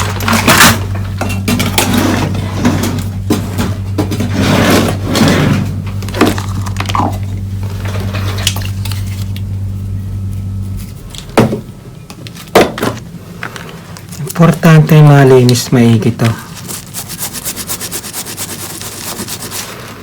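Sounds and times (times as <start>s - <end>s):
low hum: 0.0s - 17.9s.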